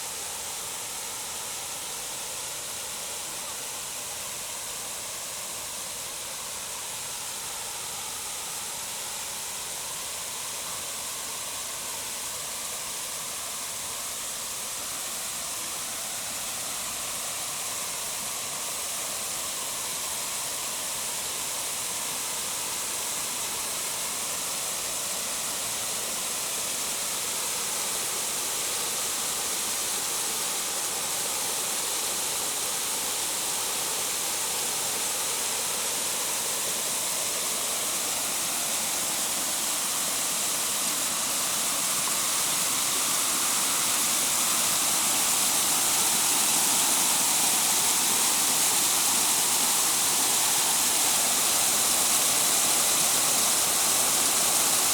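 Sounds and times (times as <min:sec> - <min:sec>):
waterfall rushing: 0:06.2 - 0:54.9.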